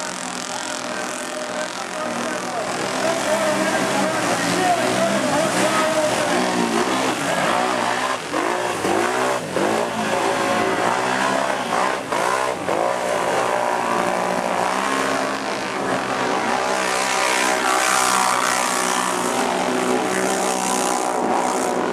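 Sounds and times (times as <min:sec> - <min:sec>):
atv engines revving: 0:00.0 - 0:21.9.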